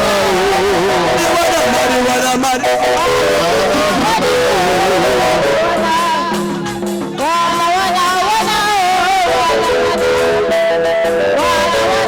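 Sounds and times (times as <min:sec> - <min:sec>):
song with guitar and singing: 0:00.0 - 0:12.0.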